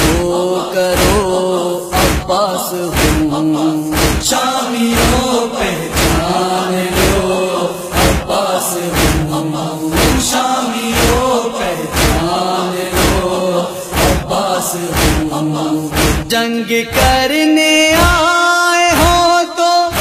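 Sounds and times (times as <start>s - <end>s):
chorus chanting: 0.0s - 18.2s
rhythmic chest-beating thumps: 0.0s - 20.0s.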